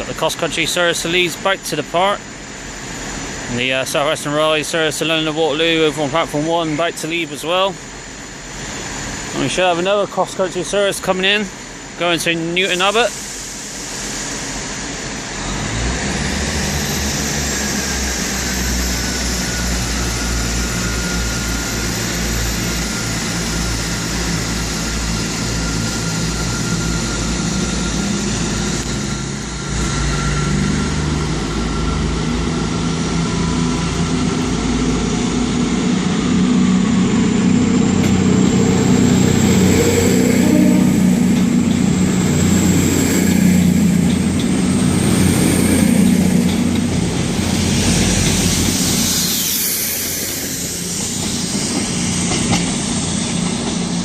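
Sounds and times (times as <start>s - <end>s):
diesel train engines running: 0.0s - 54.0s.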